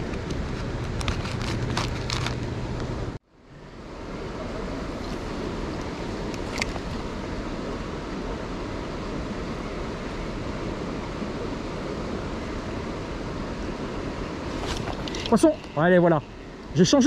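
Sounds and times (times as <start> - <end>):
river flowing: 3.3 - 17.0.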